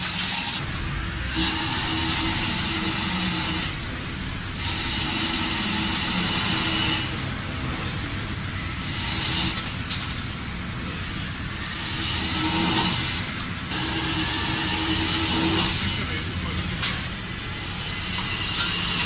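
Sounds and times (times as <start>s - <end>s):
industrial machine humming: 0.0s - 19.0s.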